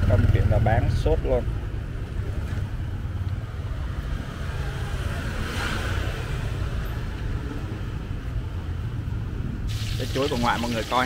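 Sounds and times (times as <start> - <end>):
street traffic rumble: 0.0 - 11.0
vehicle passing: 2.0 - 11.0.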